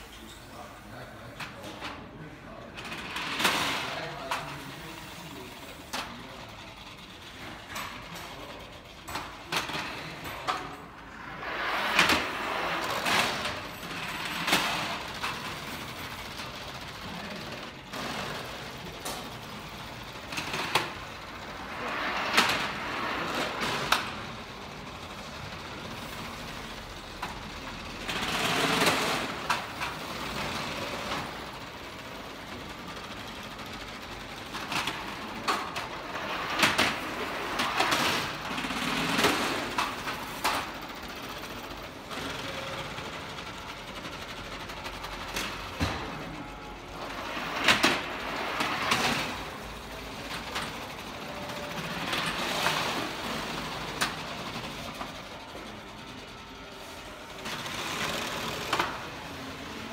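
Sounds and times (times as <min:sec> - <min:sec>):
trays rattling along roller tracks: 0:00.8 - 0:59.9.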